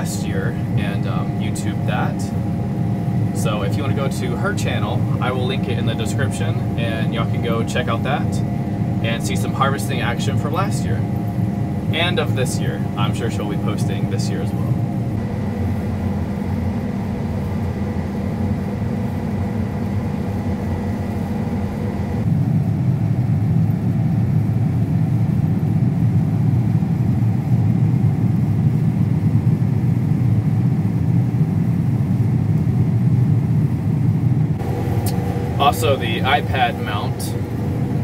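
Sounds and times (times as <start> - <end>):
combine harvester engine rumble: 0.0 - 24.6, 31.7 - 38.0
faint high whine: 0.0 - 25.9, 32.1 - 38.0.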